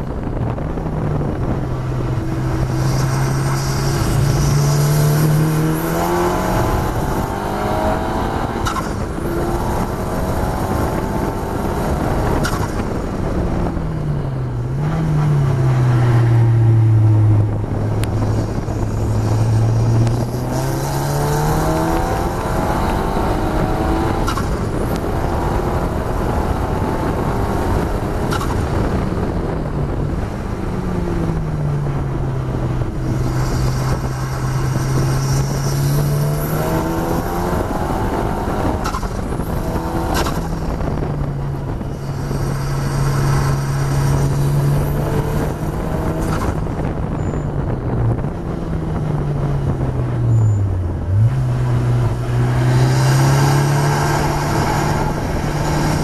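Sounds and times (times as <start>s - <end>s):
car engine driven hard: 0.0s - 56.0s
wind and road noise: 0.0s - 56.0s.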